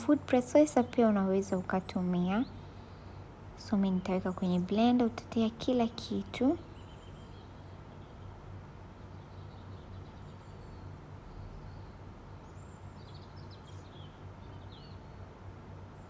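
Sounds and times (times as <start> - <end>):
faint bird chirps: 0.0 - 15.3
low steady hum: 0.0 - 16.0.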